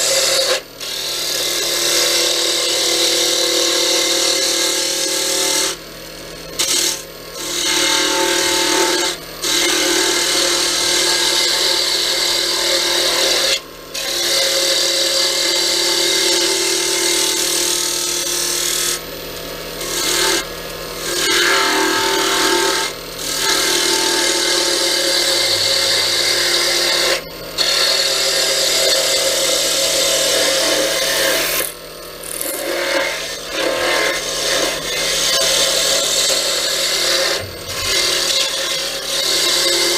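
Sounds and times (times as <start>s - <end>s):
wood lathe turning wood: 0.0s - 5.8s, 6.6s - 19.0s, 19.8s - 20.4s, 21.0s - 39.9s.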